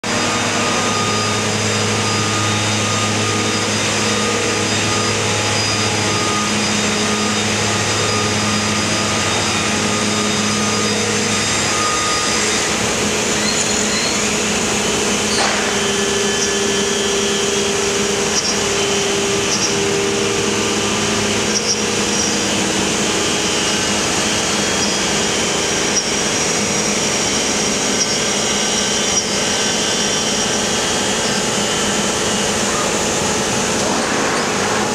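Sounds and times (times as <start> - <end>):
router machining wood: 0.1 - 34.9.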